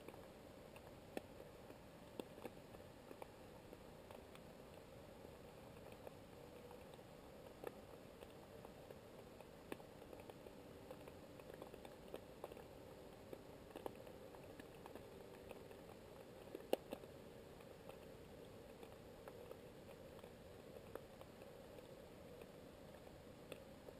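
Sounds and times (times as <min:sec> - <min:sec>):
low underwater hum: 0:00.0 - 0:23.9
underwater clicks and crackles: 0:00.0 - 0:23.9.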